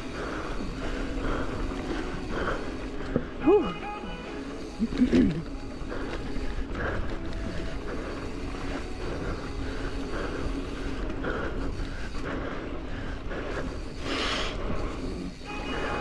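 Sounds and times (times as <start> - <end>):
tyres rumbling on dirt trail: 0.0 - 16.0.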